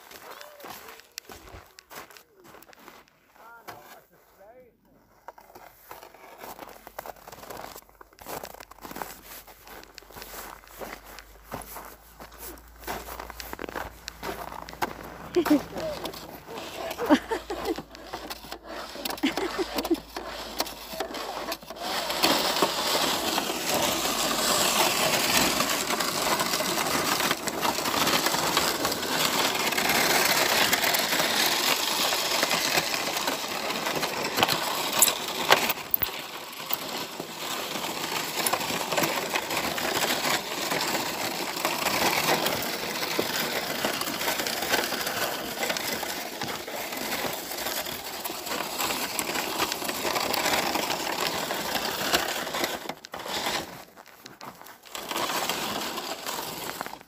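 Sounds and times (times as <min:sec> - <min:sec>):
footsteps crunching on snow: 0:00.0 - 0:57.0.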